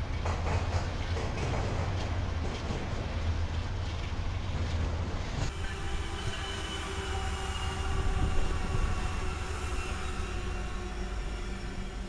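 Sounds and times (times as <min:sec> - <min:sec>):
diesel locomotives passing: 0:00.0 - 0:12.0.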